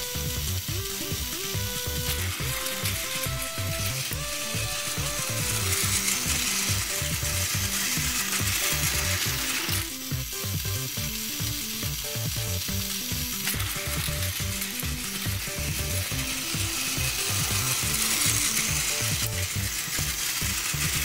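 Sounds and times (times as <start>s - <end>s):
toy train motors whirring: 0.0s - 21.0s.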